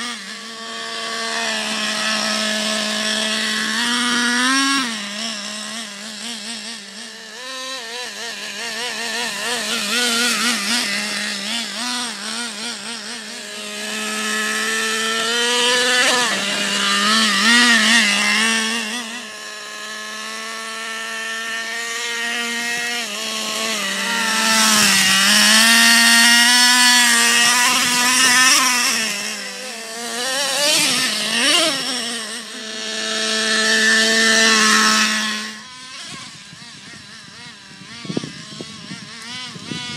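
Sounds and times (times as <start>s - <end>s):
rc truck engine revving: 0.0s - 39.9s.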